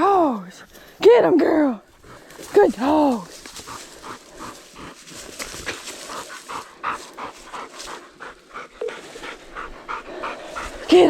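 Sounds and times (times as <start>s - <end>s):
dog panting: 1.8s - 11.0s.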